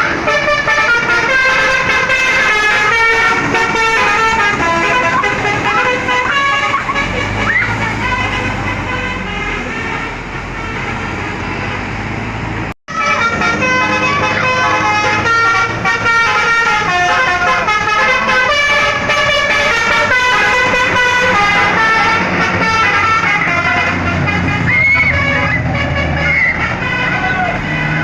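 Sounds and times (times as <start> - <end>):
musical bus horn playing: 0.0 - 12.0, 12.9 - 28.0
bus engine running: 0.0 - 28.0.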